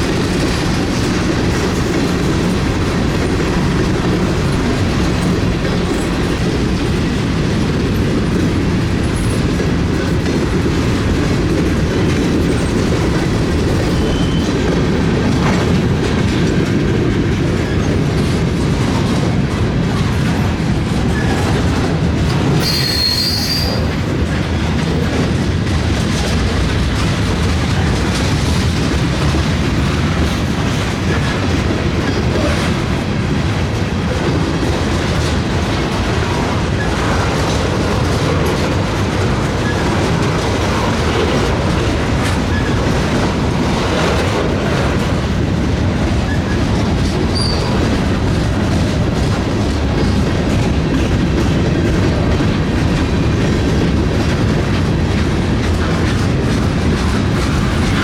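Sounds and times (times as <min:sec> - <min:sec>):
train wheels clicking over rails: 0:00.0 - 0:58.0.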